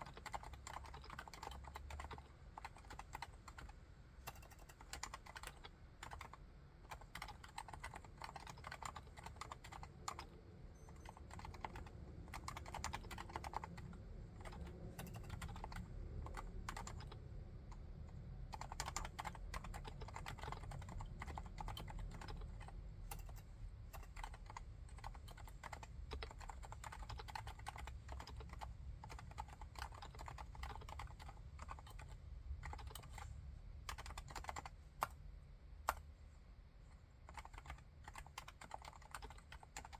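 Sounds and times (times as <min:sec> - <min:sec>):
quiet keyboard typing: 0:00.0 - 0:39.9.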